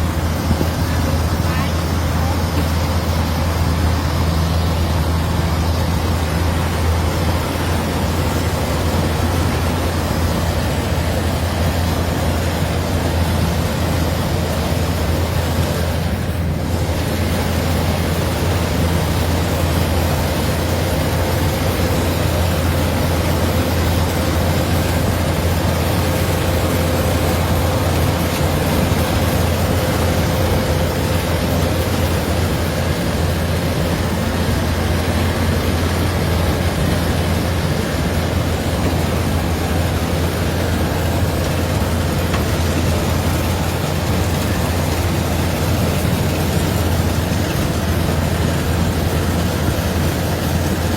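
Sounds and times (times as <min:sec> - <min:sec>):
combine harvester engine hum: 0:00.0 - 0:50.9
machinery whine: 0:00.0 - 0:50.9.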